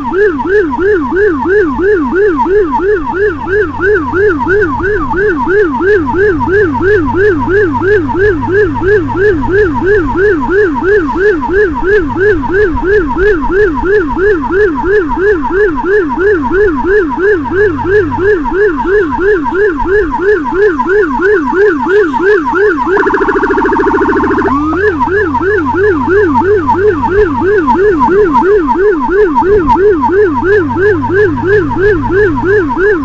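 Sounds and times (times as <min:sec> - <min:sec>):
electronic siren yelp and trill: 0:00.0 - 0:33.0.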